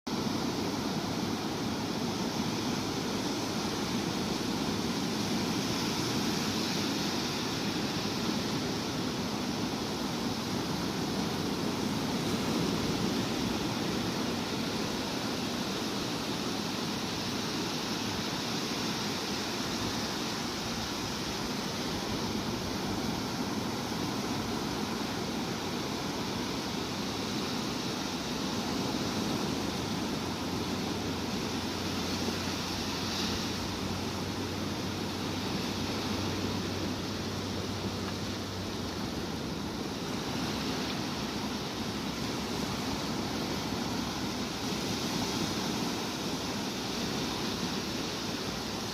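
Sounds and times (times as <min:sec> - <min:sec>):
waves washing: 0:00.1 - 0:48.9.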